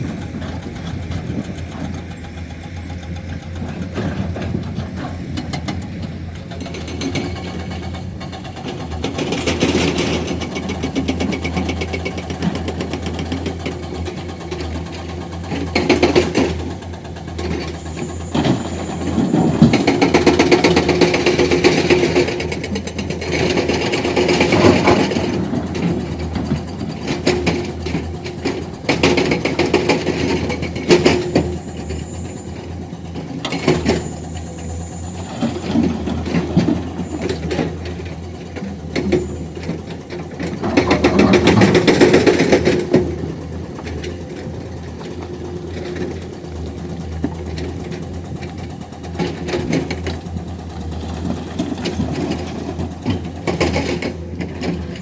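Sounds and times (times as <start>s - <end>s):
heavy diesel machinery droning: 0.0s - 55.0s
loud clattering and rattling: 6.5s - 55.0s.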